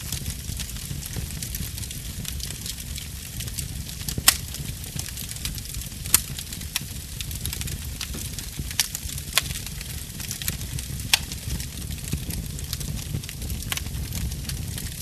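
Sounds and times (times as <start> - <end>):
burning wood crackling: 0.0 - 15.0
low rumble of fire: 0.0 - 15.0
sharp pops of fire: 0.0 - 15.0.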